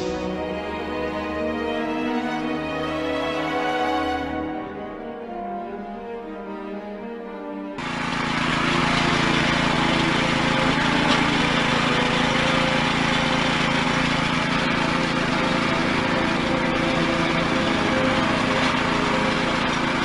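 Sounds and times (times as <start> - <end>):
small petrol engine running: 0.0 - 4.4, 7.8 - 20.0.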